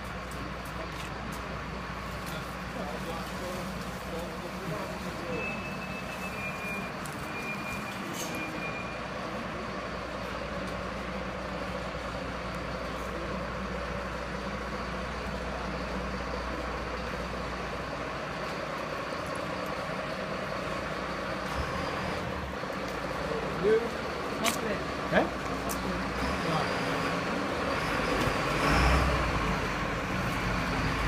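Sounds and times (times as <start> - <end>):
fire engine idling: 0.0 - 31.0.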